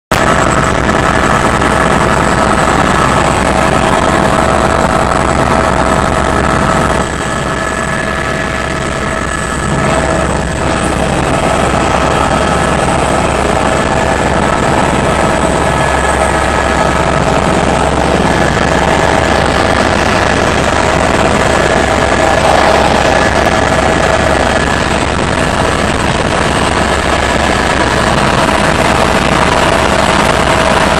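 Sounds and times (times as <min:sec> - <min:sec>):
helicopter rotor and engine: 0:00.1 - 0:30.9
high whine: 0:00.1 - 0:30.9.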